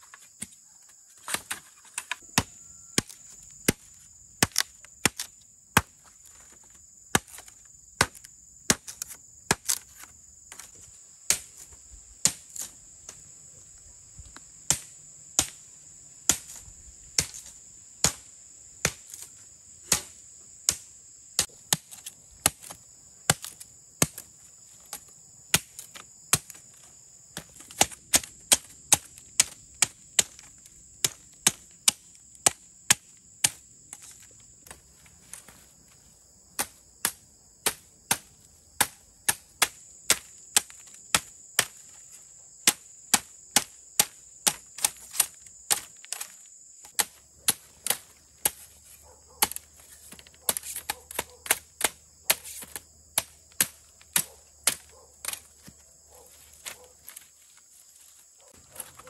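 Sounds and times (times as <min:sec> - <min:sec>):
insects buzzing: 0:00.0 - 0:59.0
hand tool chopping bamboo: 0:01.2 - 0:13.2, 0:16.3 - 0:16.6, 0:17.2 - 0:35.6, 0:36.5 - 0:57.3, 0:58.6 - 0:59.0.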